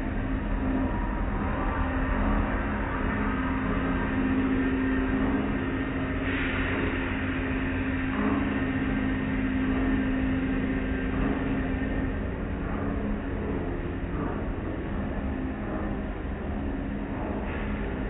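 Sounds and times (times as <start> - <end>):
car wash machinery hum: 0.0 - 18.0.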